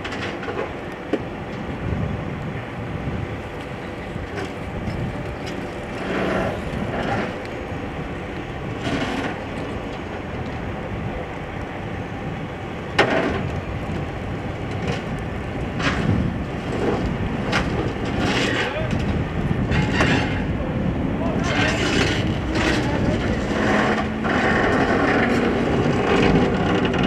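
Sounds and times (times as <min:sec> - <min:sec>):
vehicle traffic rumble: 0:00.0 - 0:27.0.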